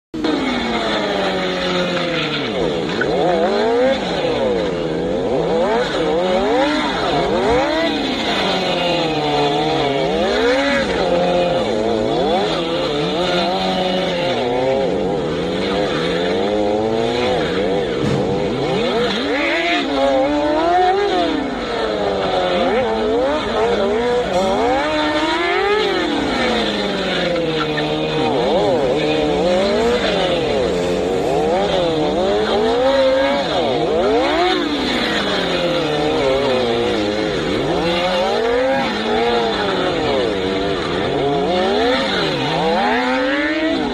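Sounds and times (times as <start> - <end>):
motorcycle engine revving: 0.2 - 43.9.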